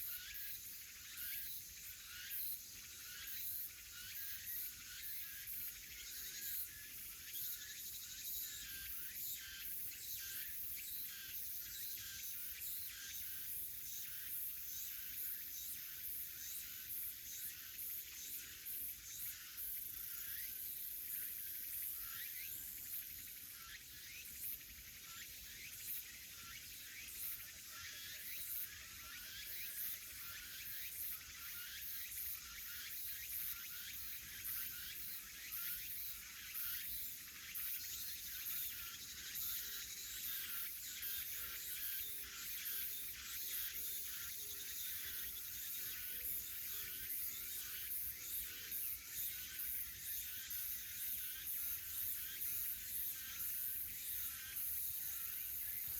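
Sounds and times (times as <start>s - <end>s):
cicadas droning: 0.0s - 55.9s.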